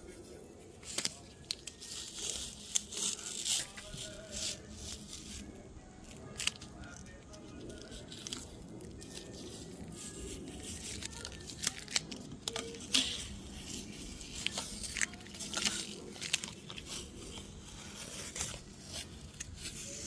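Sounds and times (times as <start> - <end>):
tape peeling and crumpling: 0.0 - 20.0.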